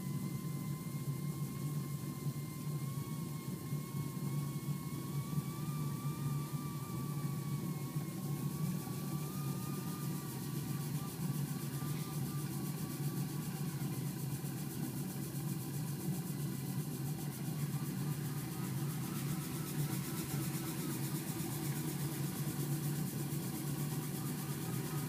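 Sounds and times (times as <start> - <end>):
faint wavering whine: 0.0 - 25.0
steam engine humming and hissing: 0.0 - 25.0.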